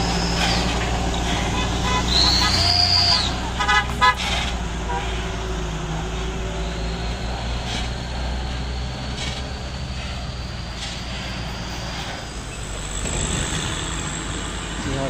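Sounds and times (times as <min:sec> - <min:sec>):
cars passing: 0:00.0 - 0:15.0
diesel truck engine droning: 0:00.0 - 0:15.0.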